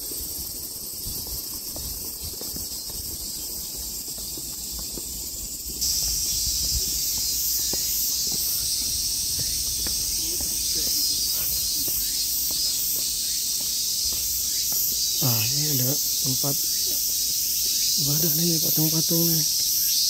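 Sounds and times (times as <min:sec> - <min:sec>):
cicadas droning: 0:00.0 - 0:20.0
faint footsteps: 0:00.2 - 0:19.8.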